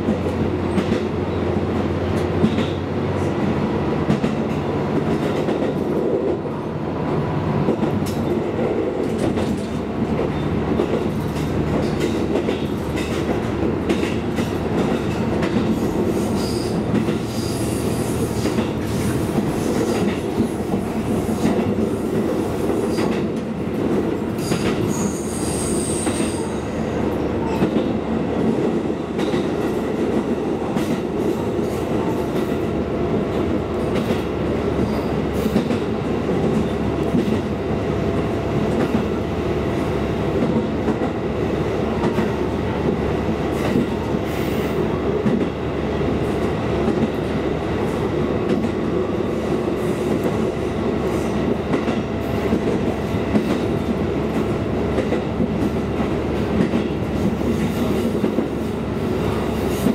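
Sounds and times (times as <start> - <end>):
diesel railcar engine and wheels: 0.0 - 59.9.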